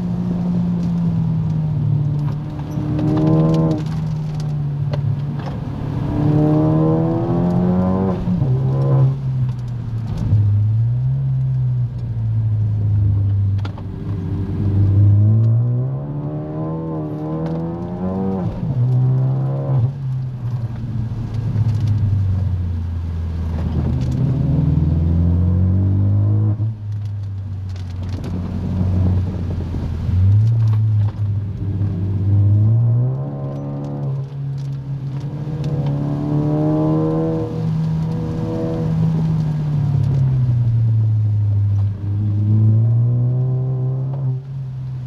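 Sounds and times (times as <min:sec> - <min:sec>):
car engine revving: 0:00.0 - 0:44.9
tyre noise on wet road: 0:00.0 - 0:45.0.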